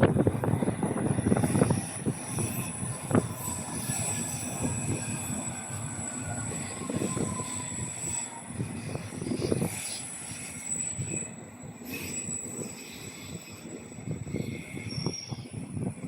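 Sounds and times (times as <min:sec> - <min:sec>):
train rumbling on rails: 0:00.0 - 0:16.0
high-pitched wheel squeal: 0:00.1 - 0:16.0.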